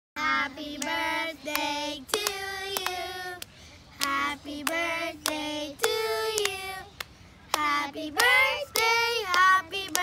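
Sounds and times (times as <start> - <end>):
girls singing together: 0.2 - 10.0
sharp claps: 0.8 - 10.0.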